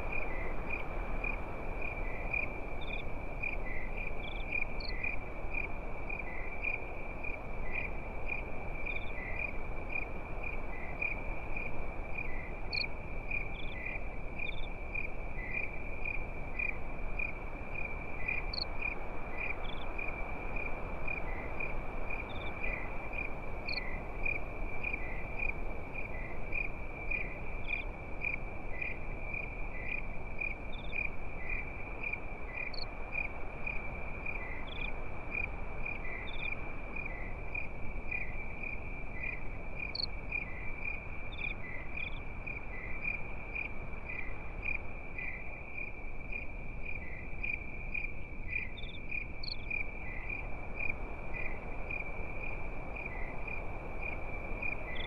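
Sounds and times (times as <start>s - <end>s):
crickets chirping: 0.0s - 55.0s
low background hiss: 0.0s - 55.0s.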